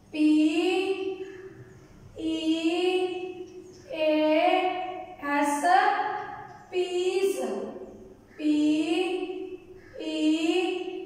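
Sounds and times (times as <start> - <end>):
woman chanting letters: 0.0 - 1.4, 2.2 - 11.0.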